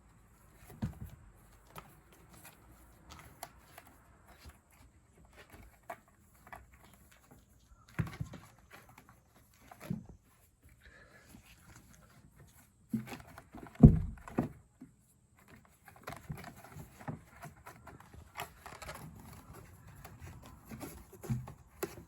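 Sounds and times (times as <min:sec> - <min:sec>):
kitten paws tapping and thumping: 0:00.0 - 0:22.0.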